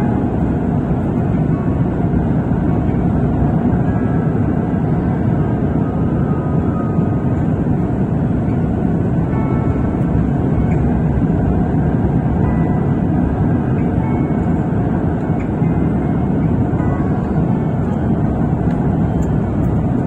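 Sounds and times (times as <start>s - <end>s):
aircraft cabin rumble: 0.0s - 20.0s
faint steady tones: 0.0s - 20.0s.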